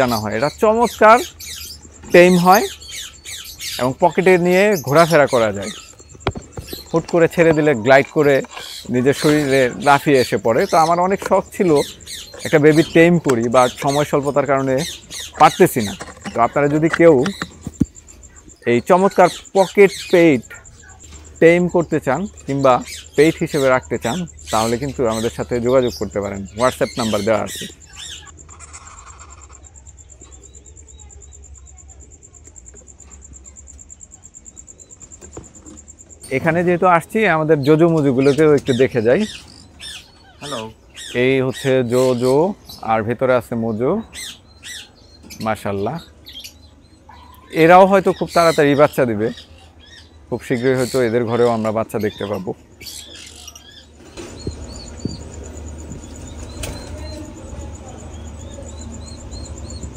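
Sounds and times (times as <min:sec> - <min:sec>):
insect trilling: 0:00.0 - 0:59.9
small birds chirping: 0:00.0 - 0:59.9.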